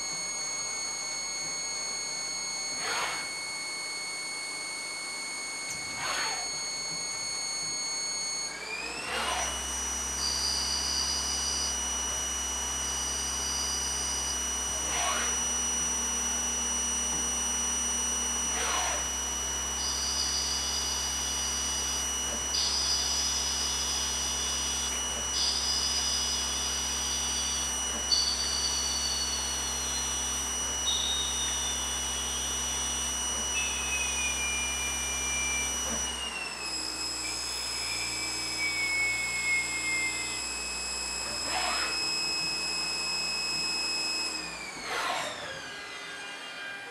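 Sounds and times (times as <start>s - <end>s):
cutting whines: 0.0s - 46.9s
lathe spindle whine: 0.0s - 46.9s.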